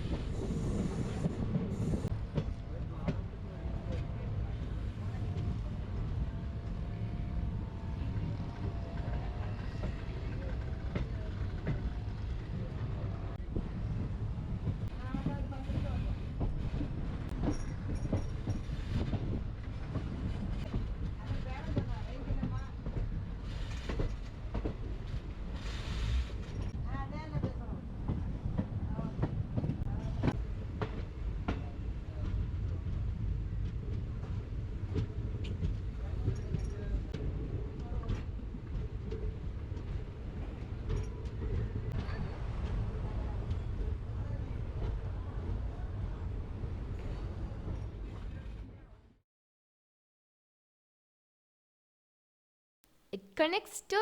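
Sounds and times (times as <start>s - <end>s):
train rumbling: 0.0s - 48.7s.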